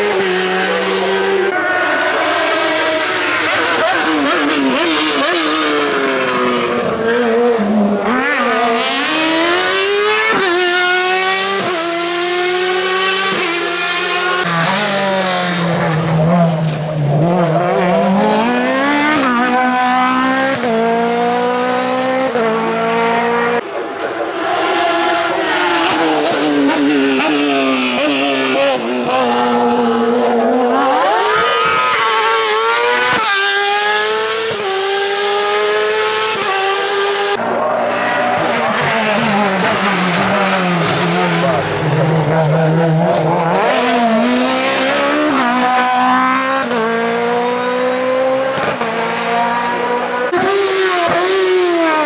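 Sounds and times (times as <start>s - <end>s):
race car engines at full throttle: 0.0s - 52.0s.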